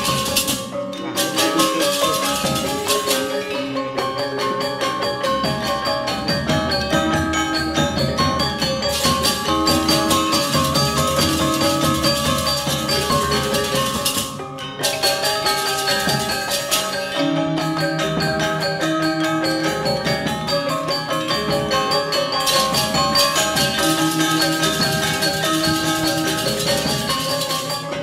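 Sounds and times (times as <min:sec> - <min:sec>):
mallet percussion strikes: 0:00.0 - 0:28.0.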